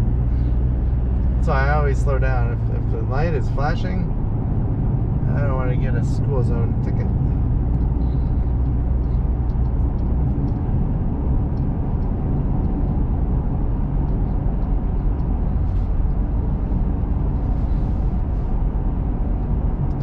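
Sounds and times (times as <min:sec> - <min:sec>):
truck road and engine rumble: 0:00.0 - 0:20.0.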